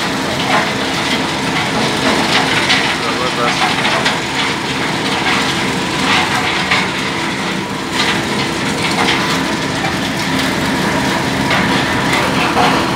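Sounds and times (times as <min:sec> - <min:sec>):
machinery humming: 0:00.0 - 0:12.9
rattling and crunching: 0:00.0 - 0:12.9.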